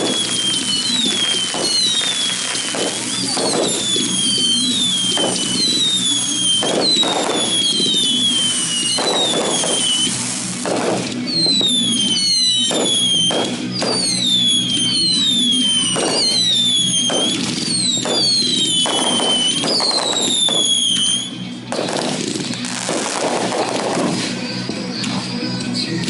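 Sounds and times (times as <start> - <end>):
firework whistles falling in pitch: 0.0 - 21.4
firework bangs: 0.0 - 24.7
firework crackling: 0.0 - 26.0.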